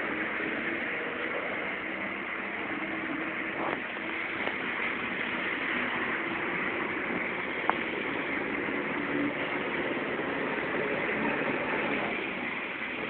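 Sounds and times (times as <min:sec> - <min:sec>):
tyre hiss on wet road: 0:00.0 - 0:12.9
low engine hum: 0:00.0 - 0:13.0.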